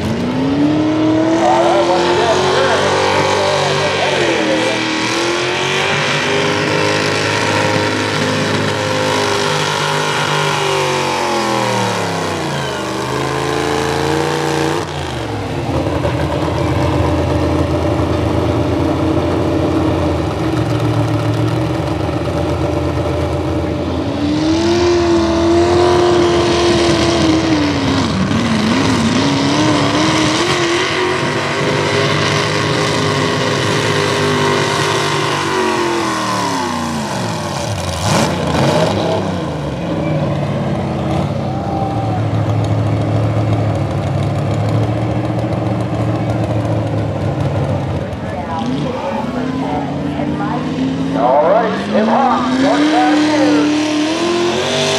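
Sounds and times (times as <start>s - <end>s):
tractor engines at high revs: 0.0s - 54.9s.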